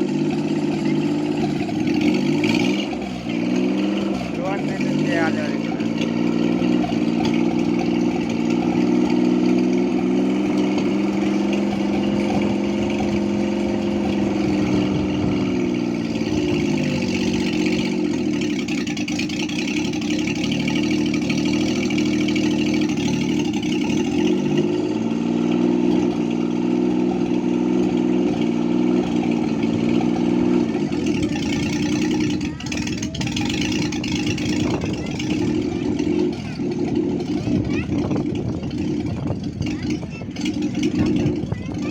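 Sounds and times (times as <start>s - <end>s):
helicopter engine running: 0.0s - 41.9s.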